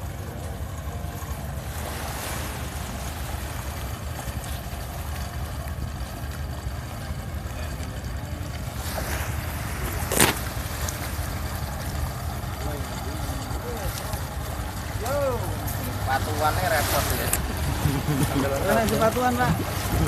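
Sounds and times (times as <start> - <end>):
small boat engine running: 0.0 - 20.0
water wash: 0.0 - 20.0.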